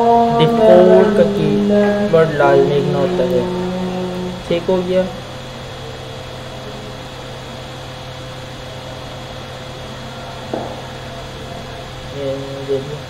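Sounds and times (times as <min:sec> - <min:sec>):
electrical hum and hiss: 0:00.0 - 0:13.0
thin whining tones: 0:00.0 - 0:13.0.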